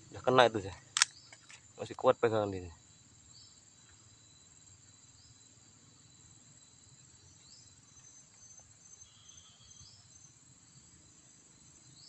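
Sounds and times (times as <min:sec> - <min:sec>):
insect high-pitched drone: 0:00.0 - 0:12.0.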